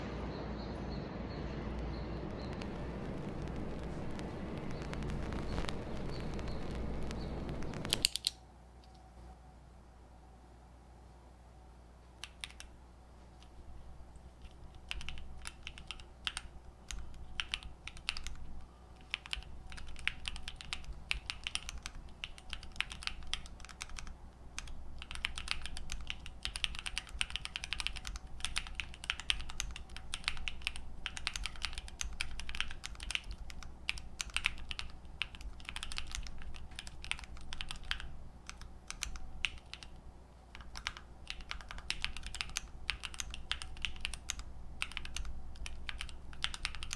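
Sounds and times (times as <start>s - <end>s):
mechanical keyboard typing: 2.4s - 8.4s, 12.2s - 12.8s, 13.4s - 46.9s.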